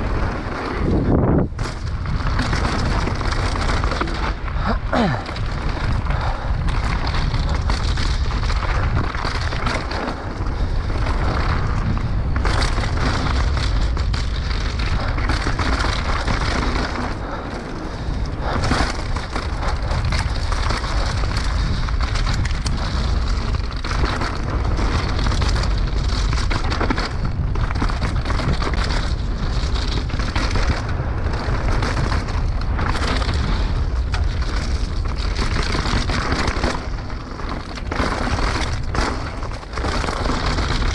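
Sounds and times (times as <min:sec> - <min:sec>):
deep rumble: 0:00.0 - 0:40.9
mountain bike rattling: 0:00.0 - 0:40.9.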